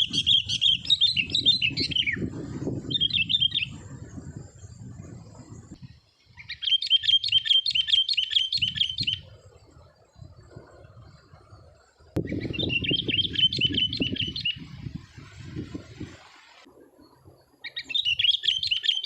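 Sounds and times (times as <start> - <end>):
songbird singing: 0.0 - 15.9, 16.8 - 19.0.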